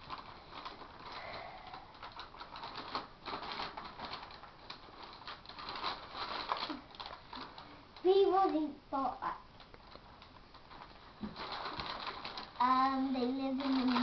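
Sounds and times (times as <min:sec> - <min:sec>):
paper crinkling and rustling: 0:00.0 - 0:08.6, 0:09.6 - 0:14.0.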